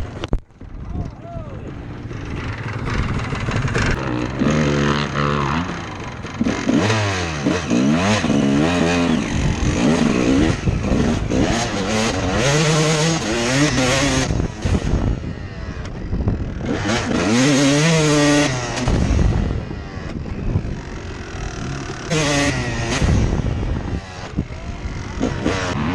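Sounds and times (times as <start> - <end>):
dirt bike engine revving: 1.7 - 25.9.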